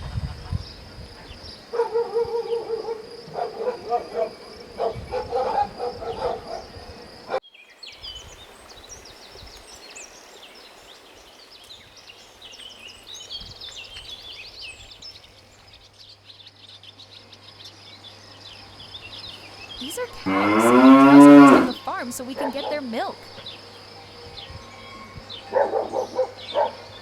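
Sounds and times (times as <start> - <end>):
birds chirping and singing: 0.0 - 27.0
faint rural hiss: 0.0 - 27.0.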